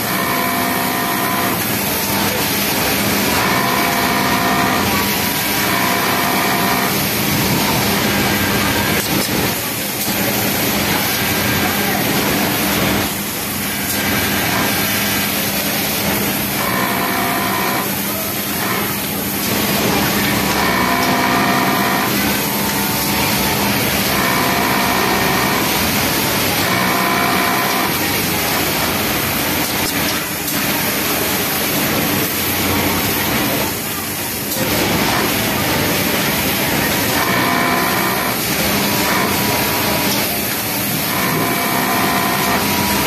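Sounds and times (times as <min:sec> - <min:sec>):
loud background hum: 0:00.0 - 0:43.0
sewing machine running: 0:00.0 - 0:43.0.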